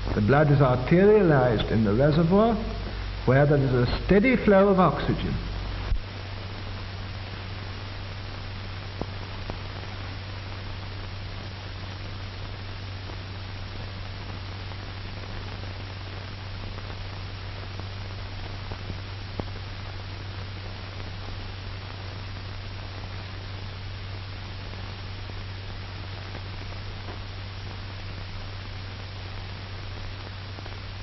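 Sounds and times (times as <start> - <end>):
film soundtrack hiss and hum: 0.0 - 31.0.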